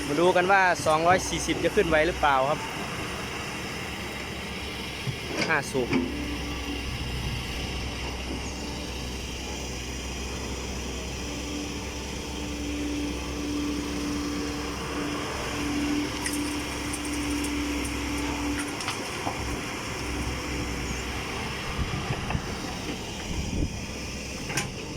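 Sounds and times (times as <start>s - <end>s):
dump truck diesel engine droning: 0.0s - 24.9s
steady hum: 0.8s - 24.9s.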